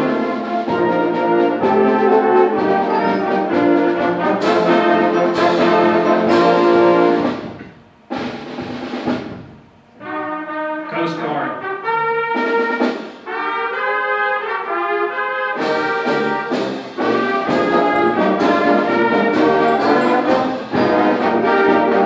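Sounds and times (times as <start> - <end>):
heavy accented band hits: 0.0 - 22.0
symphonic band with brass: 0.0 - 22.0.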